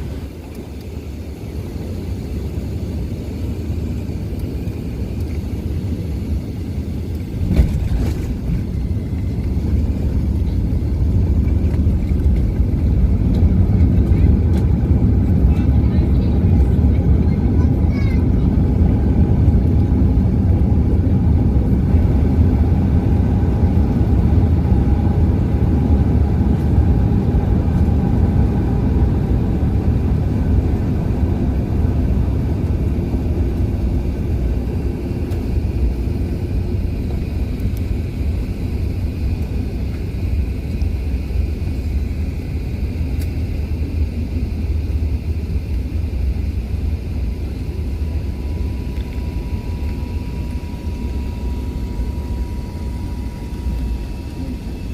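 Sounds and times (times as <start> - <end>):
airliner cabin engine rumble: 0.0 - 54.9
faint whine: 0.0 - 54.9.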